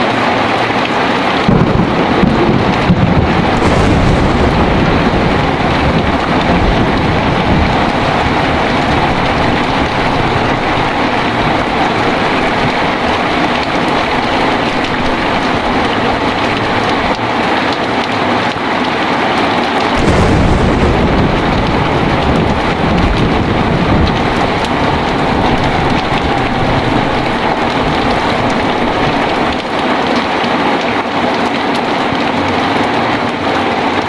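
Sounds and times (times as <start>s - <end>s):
heavy rain: 0.0s - 34.0s
thunder rumbling: 1.3s - 18.0s, 19.6s - 30.7s.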